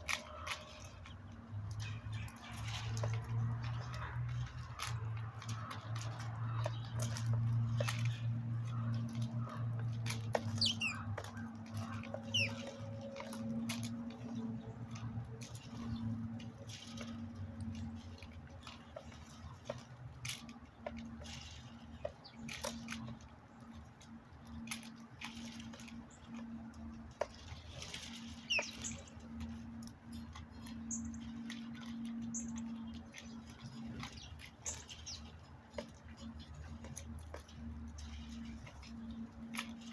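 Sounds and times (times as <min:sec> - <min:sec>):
light clicks and ticks: 0:00.0 - 0:39.9
small birds chirping: 0:00.0 - 0:39.9.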